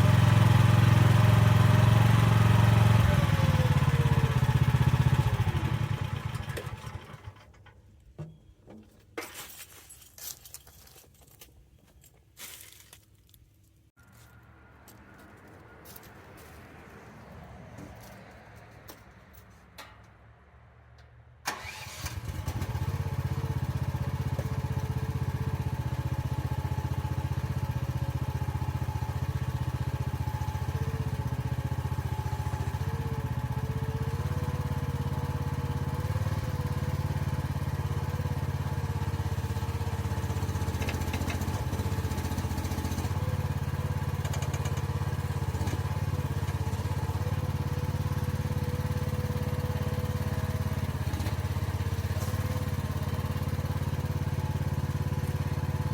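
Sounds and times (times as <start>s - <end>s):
excavator engine starting and running: 0.0s - 8.9s, 14.0s - 55.9s.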